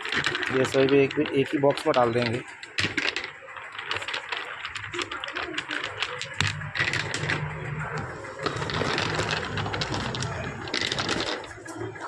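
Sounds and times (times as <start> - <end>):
metal connectors clinking: 0.0 - 11.8.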